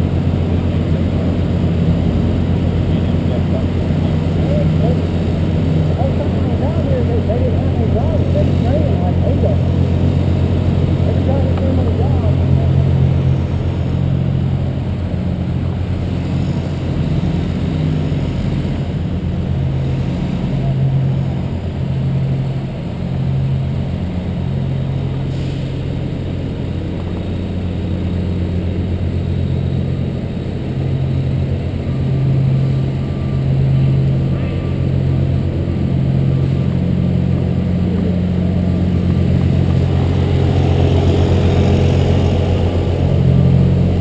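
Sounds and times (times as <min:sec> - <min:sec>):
truck engine droning: 0:00.0 - 0:44.0.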